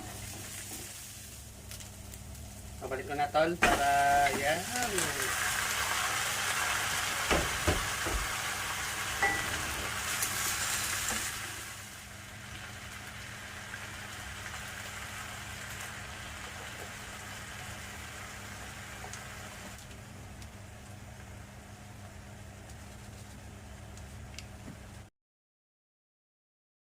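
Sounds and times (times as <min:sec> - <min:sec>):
food sizzling in hot oil: 0:00.0 - 0:22.1.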